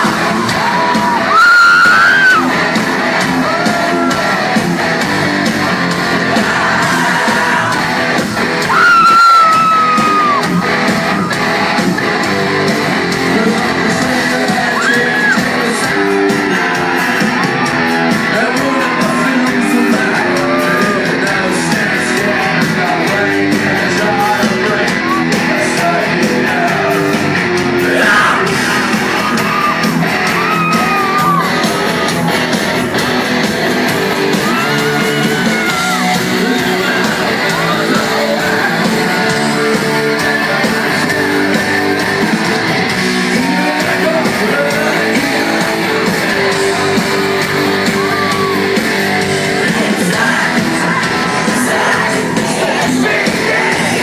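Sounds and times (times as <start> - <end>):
man singing and shouting: 0.0 - 33.0, 33.7 - 54.0
electric guitar: 0.0 - 54.0
live rock band playing: 0.0 - 54.0.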